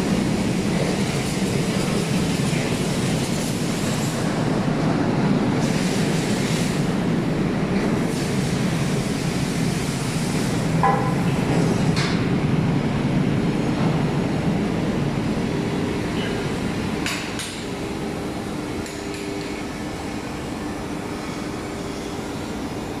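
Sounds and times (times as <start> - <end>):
foundry machinery noise: 0.0 - 23.0.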